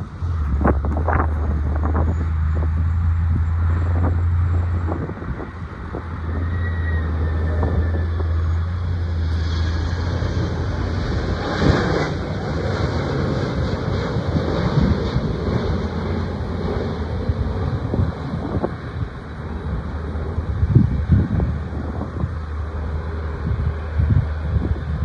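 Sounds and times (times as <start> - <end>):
jet engines roaring: 0.0 - 25.0
road traffic rumble: 0.0 - 25.0
wind on microphone: 0.0 - 25.0.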